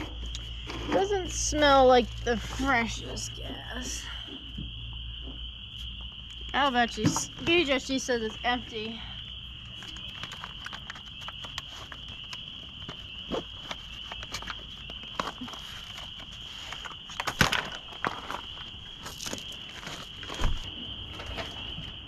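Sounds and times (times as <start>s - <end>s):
high-pitched insect chirring: 0.0s - 22.0s.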